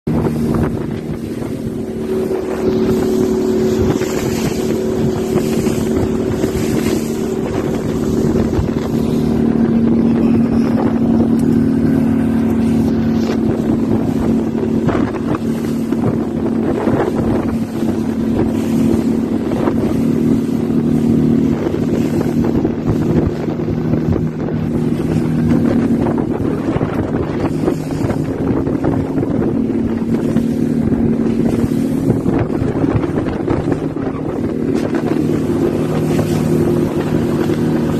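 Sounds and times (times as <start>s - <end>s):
motorboat engine running: 0.0s - 37.9s
water rushing past hull: 0.0s - 37.9s
wind buffeting microphone: 0.1s - 37.9s.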